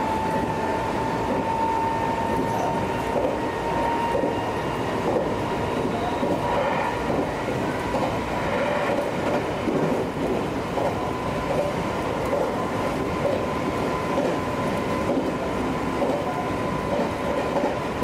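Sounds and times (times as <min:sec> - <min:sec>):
electric train whine: 0:00.0 - 0:18.0
train wheel and track clatter: 0:00.0 - 0:18.0.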